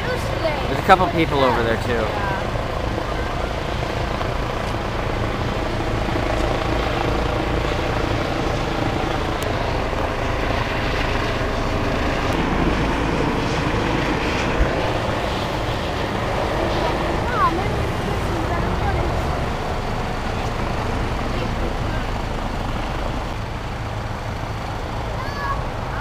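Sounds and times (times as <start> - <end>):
helicopter flying overhead: 0.0 - 26.0.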